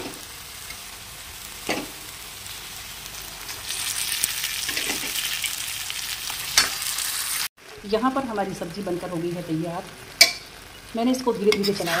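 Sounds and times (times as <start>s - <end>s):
masala sizzling in pan: 0.0s - 12.0s.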